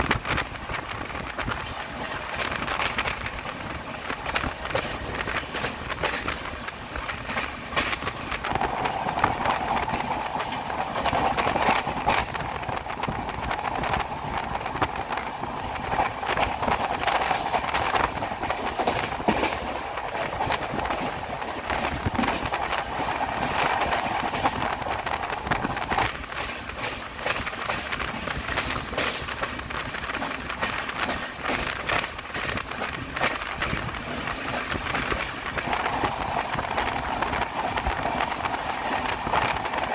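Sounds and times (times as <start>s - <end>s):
train rushing noise: 0.0s - 39.9s
train wheels clattering: 0.0s - 39.9s.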